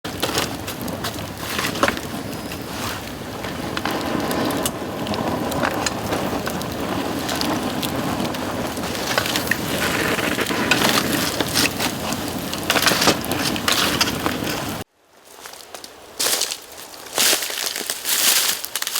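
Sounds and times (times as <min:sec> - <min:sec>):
bamboo crackling in campfire: 0:00.0 - 0:18.9.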